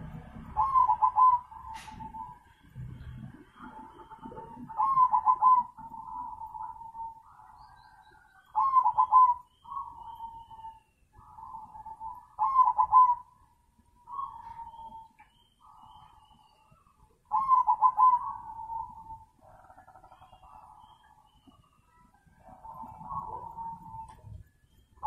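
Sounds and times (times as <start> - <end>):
doves cooing: 0.0 - 24.8.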